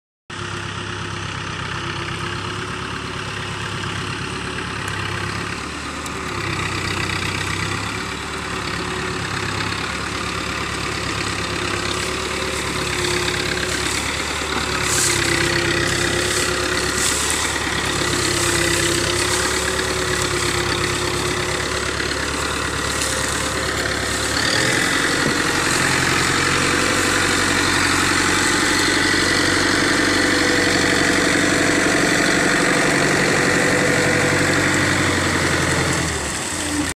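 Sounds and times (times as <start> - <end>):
tractor diesel engine running: 0.3 - 36.9.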